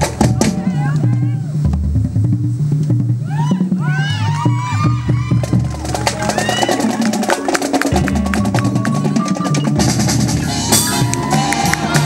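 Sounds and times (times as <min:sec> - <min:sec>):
marching band playing: 0:00.0 - 0:12.0
rapid drum strokes: 0:00.0 - 0:12.0.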